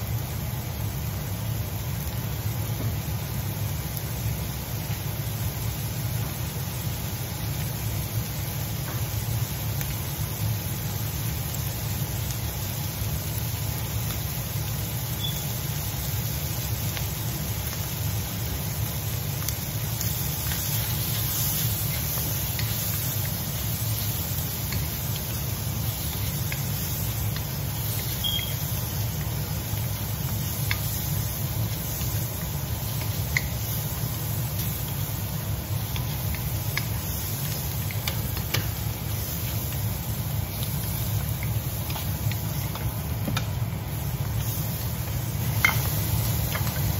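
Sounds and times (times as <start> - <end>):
food sizzling in a wok: 0.0 - 46.9.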